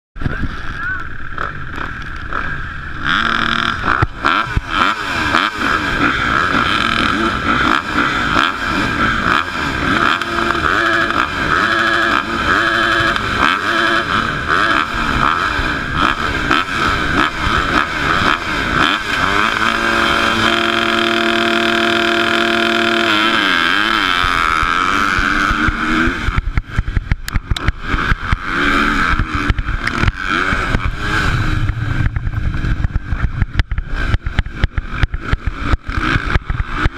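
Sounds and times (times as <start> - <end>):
motocross bike engines revving: 0.2 - 36.9.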